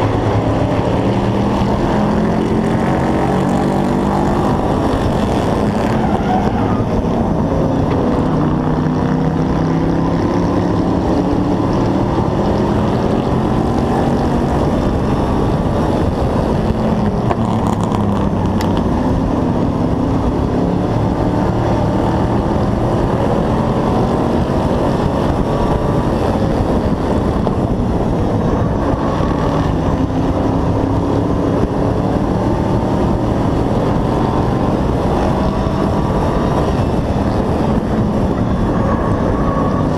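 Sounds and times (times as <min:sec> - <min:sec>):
race truck engine revving: 0:00.0 - 0:39.9
wind and road noise: 0:00.0 - 0:39.9.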